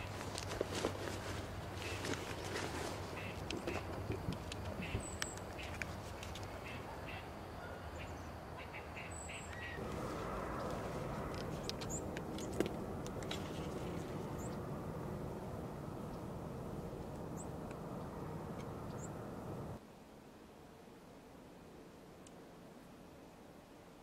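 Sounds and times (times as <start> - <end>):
birds calling: 0.0 - 19.8
outdoor background noise: 0.0 - 24.0.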